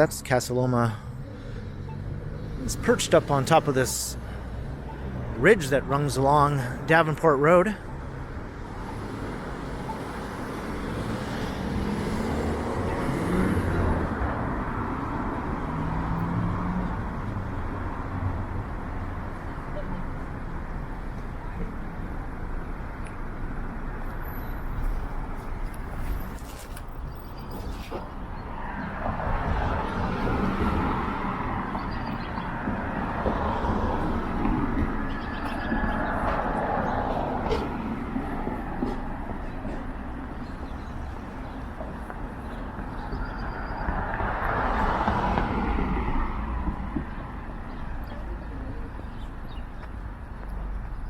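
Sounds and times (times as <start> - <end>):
cars driving past: 0.0 - 51.0.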